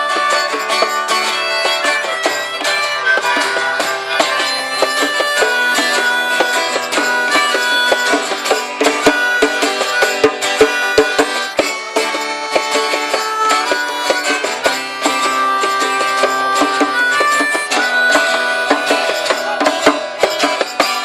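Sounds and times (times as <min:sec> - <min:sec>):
folk band playing strings: 0:00.0 - 0:21.0.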